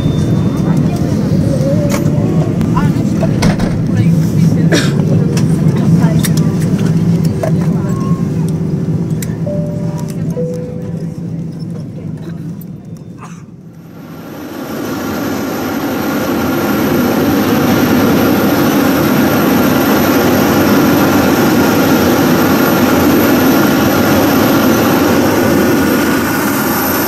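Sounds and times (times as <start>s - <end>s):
vehicle engine rumble and rolling: 0.0s - 27.0s.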